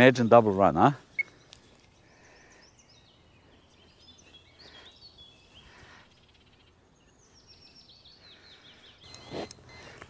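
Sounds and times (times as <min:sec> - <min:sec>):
faint birdsong chirps: 0:00.0 - 0:10.0.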